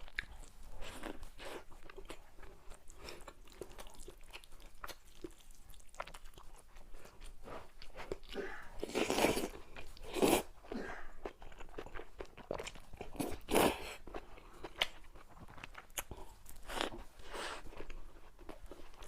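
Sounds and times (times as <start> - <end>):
crunching and chewing crisp food: 0.0 - 19.0.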